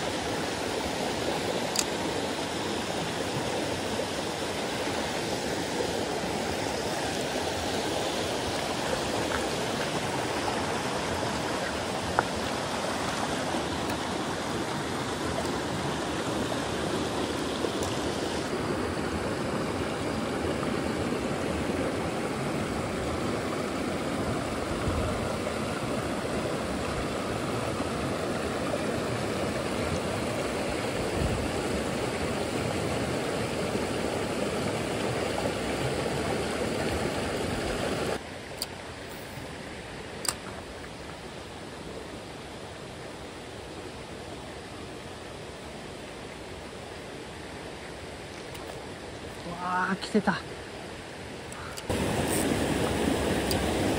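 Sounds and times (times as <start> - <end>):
stream rushing over rocks: 0.0 - 53.9.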